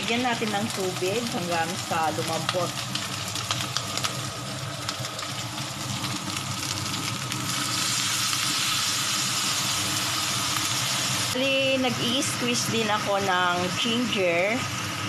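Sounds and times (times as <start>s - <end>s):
pork sizzling in a wok: 0.0s - 15.0s.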